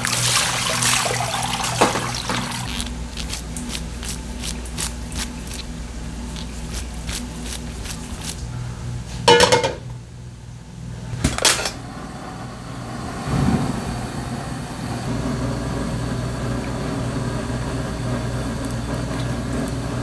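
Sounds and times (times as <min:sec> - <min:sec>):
kitchen fan humming: 0:00.0 - 0:20.0.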